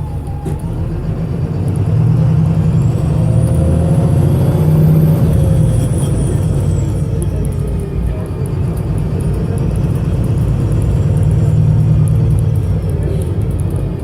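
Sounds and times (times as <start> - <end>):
diesel engine misfiring under throttle: 0.0 - 14.0.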